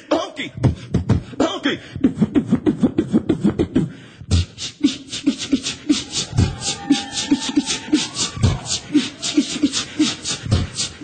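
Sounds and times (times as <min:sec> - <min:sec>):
man beatboxing into microphone: 0:00.0 - 0:11.0.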